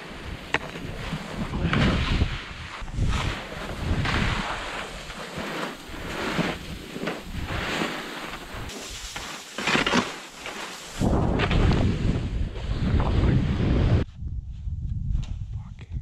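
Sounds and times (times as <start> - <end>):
wind noise on microphone: 0.0 - 9.2, 10.9 - 16.0
skis scraping through snow: 0.0 - 14.1.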